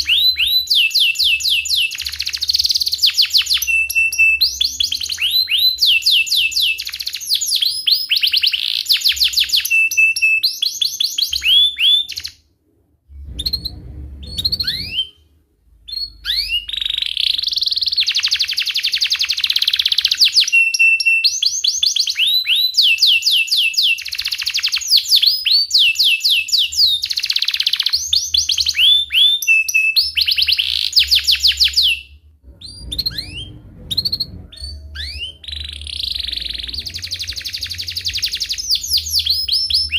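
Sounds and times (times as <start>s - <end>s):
canary singing trills: 0.0s - 12.4s, 13.2s - 15.3s, 15.9s - 39.9s.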